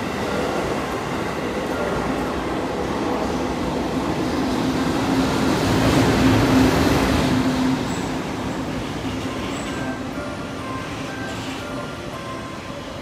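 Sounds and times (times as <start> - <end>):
steady locomotive hum: 0.0 - 13.0
train wheels rumbling on rail: 0.0 - 13.0.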